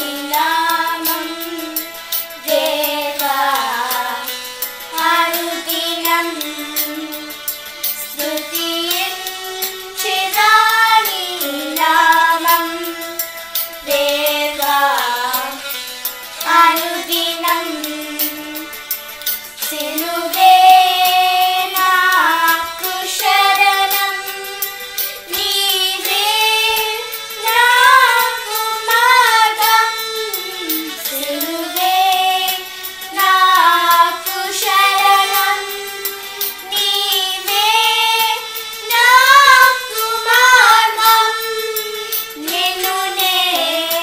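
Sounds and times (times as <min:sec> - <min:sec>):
girl singing worship song: 0:00.0 - 0:44.0.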